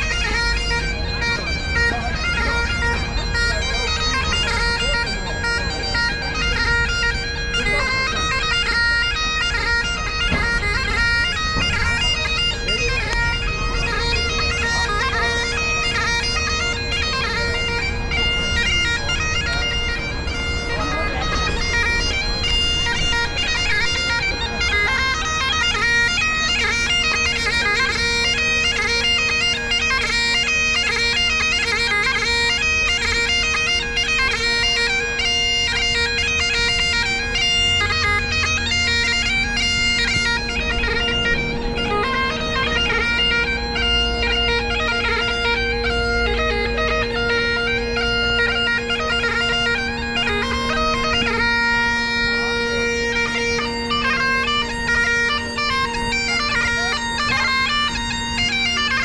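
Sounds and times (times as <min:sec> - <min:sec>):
bagpipe chanter melody: 0:00.0 - 0:59.0
bagpipe drones: 0:00.0 - 0:59.0.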